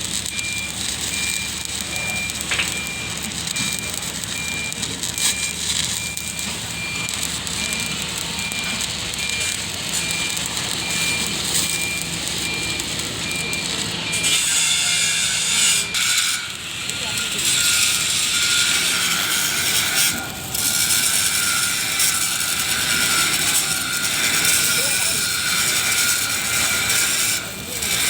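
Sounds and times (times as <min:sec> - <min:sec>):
reversing alarm beeping: 0:00.0 - 0:28.0.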